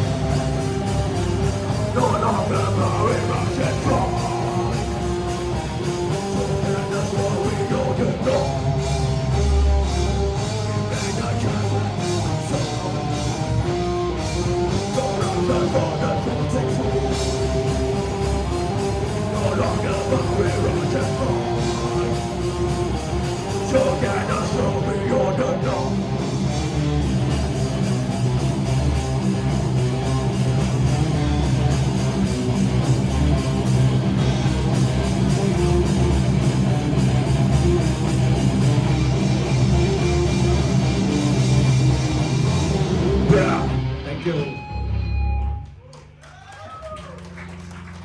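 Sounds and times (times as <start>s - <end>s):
drum kit playing: 0.0s - 45.6s
bass guitar: 0.0s - 48.0s
electric guitars: 0.0s - 48.0s.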